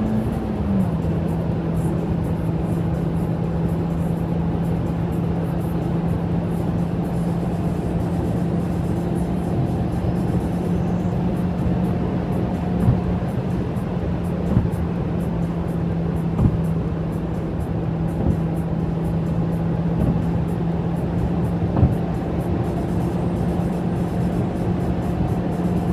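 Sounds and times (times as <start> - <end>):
car engine and exhaust drone: 0.0 - 25.9.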